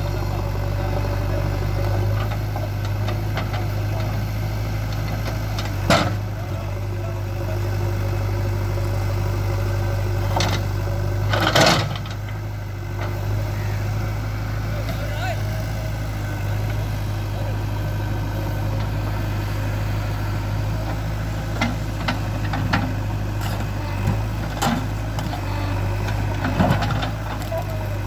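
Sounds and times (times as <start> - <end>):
diesel engine running at low revs: 0.0 - 28.0.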